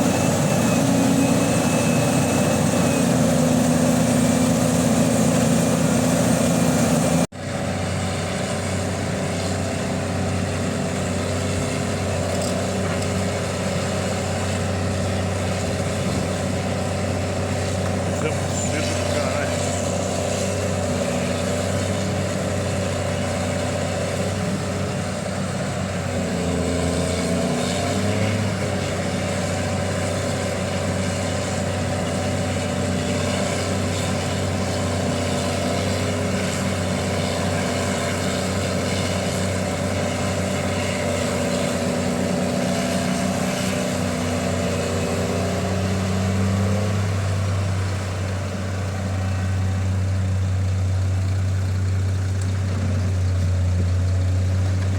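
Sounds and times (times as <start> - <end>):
heavy diesel engines running: 0.0 - 54.9.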